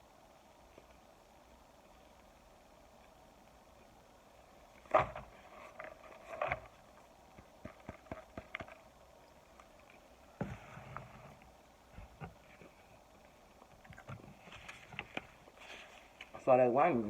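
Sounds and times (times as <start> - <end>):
small crackles: 0.6 - 16.5.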